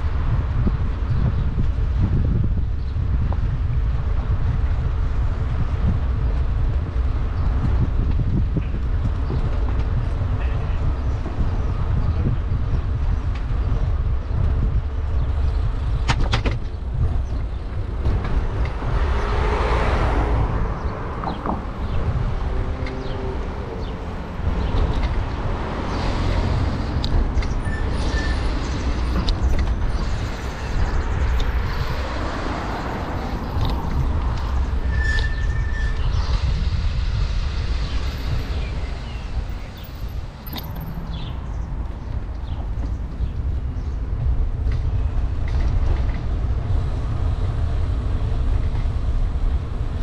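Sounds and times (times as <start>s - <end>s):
tyre and road noise: 0.0s - 50.0s
wind buffeting microphone: 0.0s - 50.0s.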